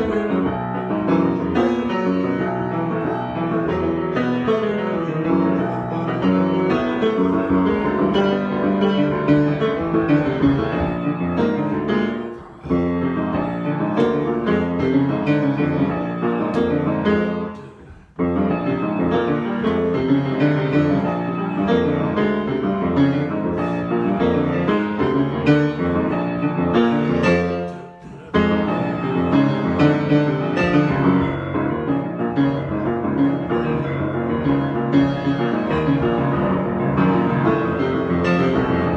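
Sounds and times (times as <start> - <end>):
piano improvisation: 0.0 - 38.9.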